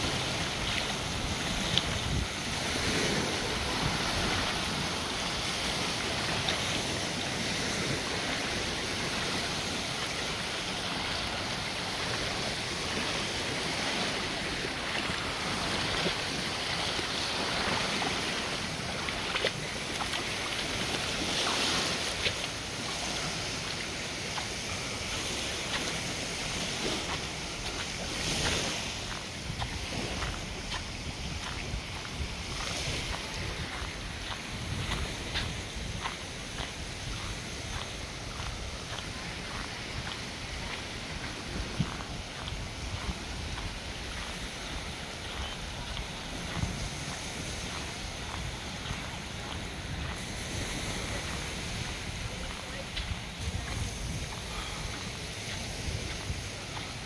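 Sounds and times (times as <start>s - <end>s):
waves washing on sandy beach: 0.0s - 57.0s
wind on microphone: 0.0s - 57.0s.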